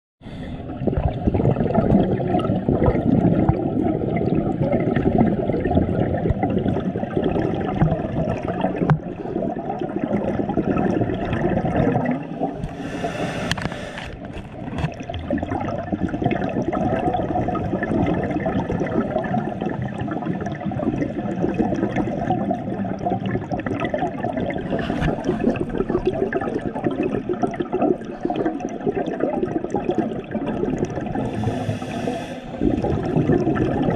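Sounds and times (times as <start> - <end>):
underwater gurgling and bubbling: 0.3 - 33.9.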